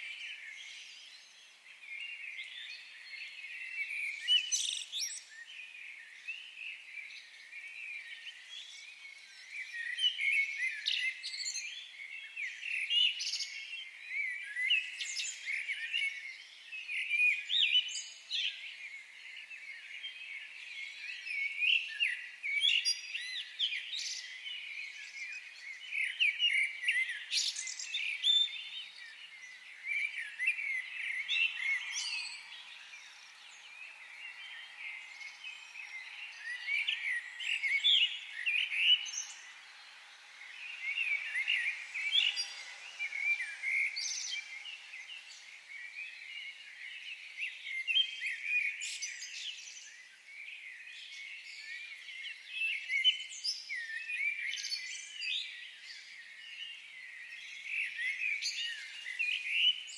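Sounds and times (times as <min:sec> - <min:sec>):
faint steady hiss: 0:00.0 - 0:52.8
birds chirping and twittering: 0:00.0 - 0:59.9.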